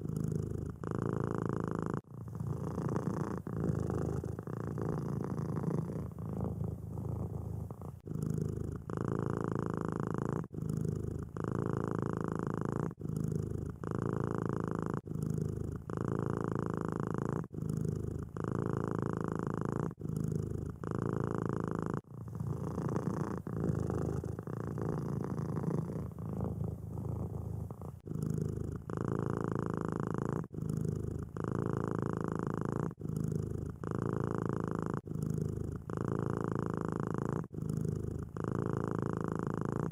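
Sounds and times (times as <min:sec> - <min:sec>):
kitten purring: 0:00.0 - 0:39.9.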